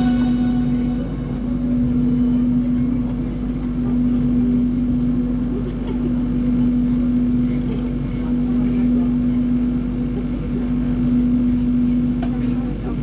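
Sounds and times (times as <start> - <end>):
constant hum: 0.0 - 12.7
train carriage rumble: 0.0 - 13.0.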